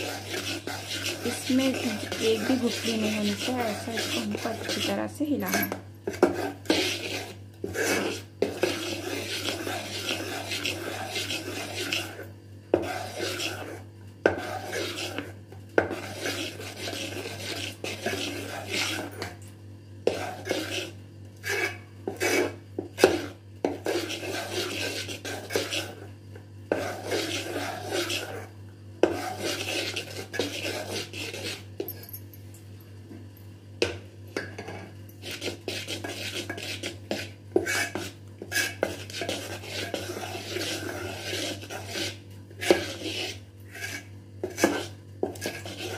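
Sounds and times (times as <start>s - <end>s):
spoon stirring batter in metal bowl: 0.0s - 26.1s, 26.7s - 32.0s, 33.8s - 45.9s
steady low hum: 0.0s - 45.9s.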